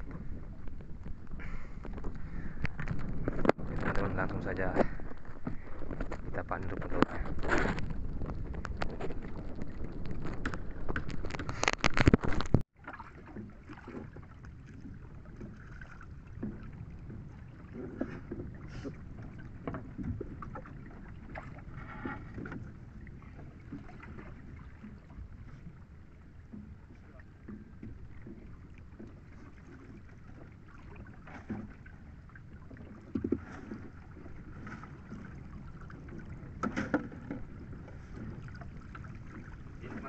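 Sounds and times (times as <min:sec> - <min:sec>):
wind: 0:00.0 - 0:40.0.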